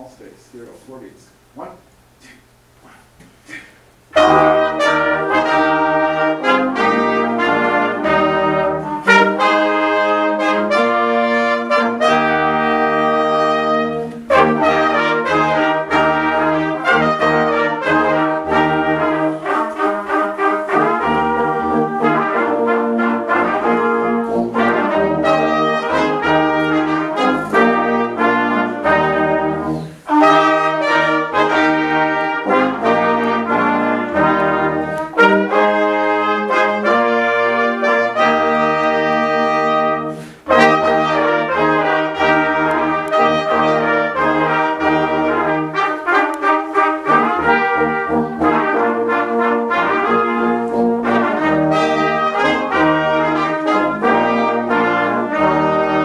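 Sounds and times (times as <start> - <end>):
brass ensemble playing: 4.1 - 56.0.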